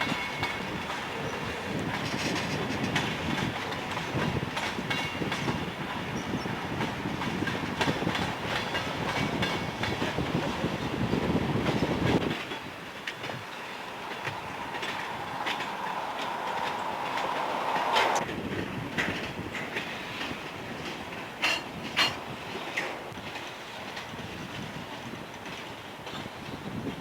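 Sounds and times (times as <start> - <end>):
heavy train rumble: 0.0 - 27.0
train wheels clicking over rails: 0.0 - 27.0.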